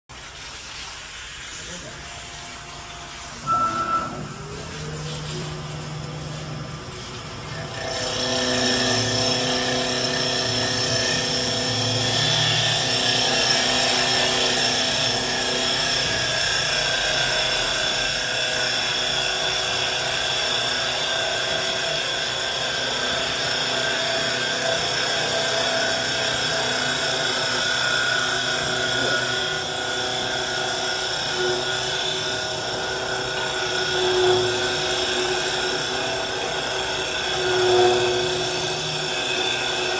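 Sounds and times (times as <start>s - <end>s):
lathe motor whine: 1.6s - 39.9s
cutter shaving wood: 4.4s - 39.9s.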